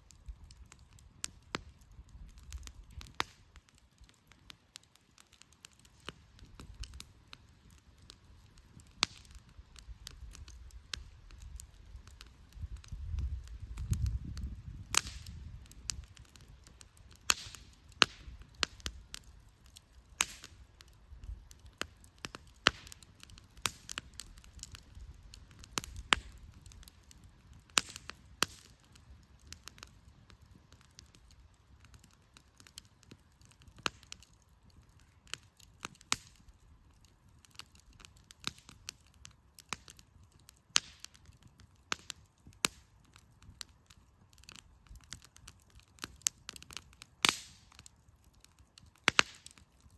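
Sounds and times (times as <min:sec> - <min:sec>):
firewood snapping and popping: 0:00.0 - 0:49.9.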